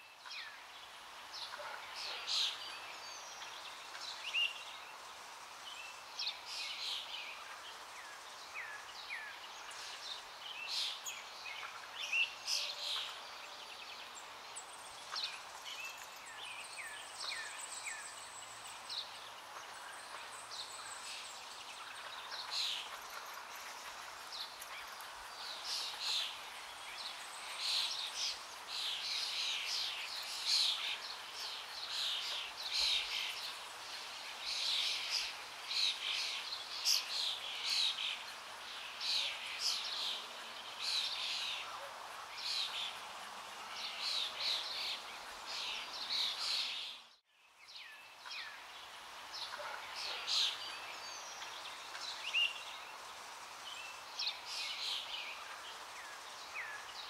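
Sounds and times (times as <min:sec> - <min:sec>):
birds chirping: 0:00.0 - 0:57.0
faint outdoor hiss: 0:00.0 - 0:57.0.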